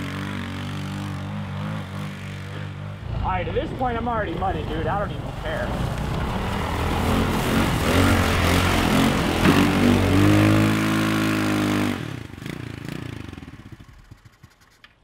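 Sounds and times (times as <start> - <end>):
go-kart engine revving: 0.0 - 15.0.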